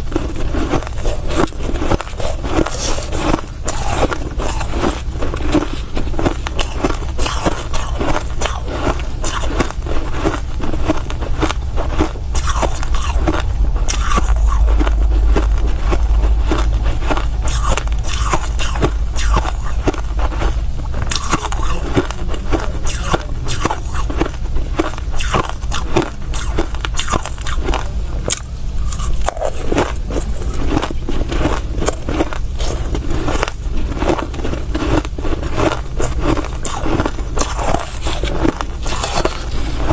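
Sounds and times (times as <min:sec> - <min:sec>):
chewing crushed ice: 0:00.0 - 0:39.9
low rumble: 0:00.0 - 0:39.9.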